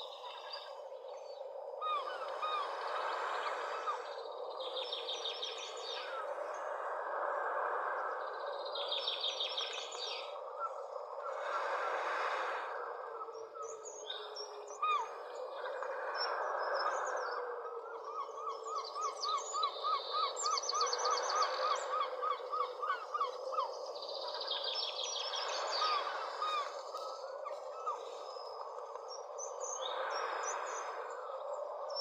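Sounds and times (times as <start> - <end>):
wild birds calling: 0.0 - 6.6, 8.0 - 32.0.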